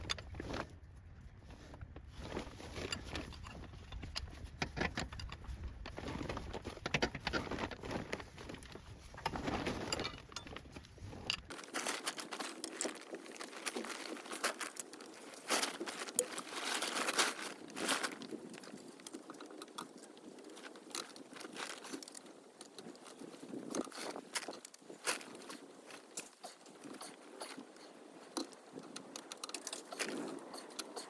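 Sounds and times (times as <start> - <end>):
small parts clicking and rustling: 0.0 - 31.0.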